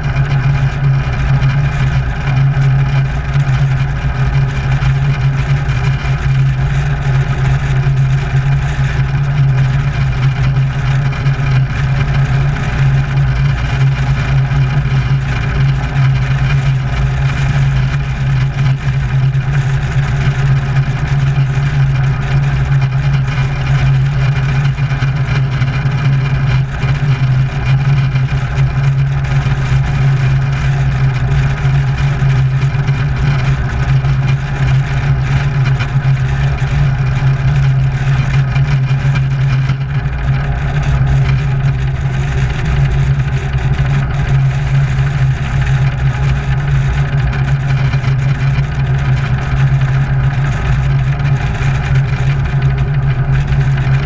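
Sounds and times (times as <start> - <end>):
propeller plane engine running: 0.0 - 54.0.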